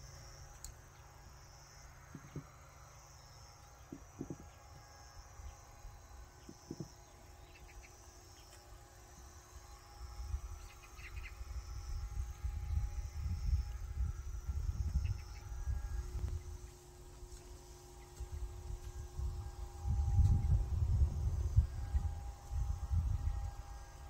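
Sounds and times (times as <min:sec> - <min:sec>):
faint outdoor ambience: 0:00.0 - 0:24.0
insects trilling: 0:00.0 - 0:24.0.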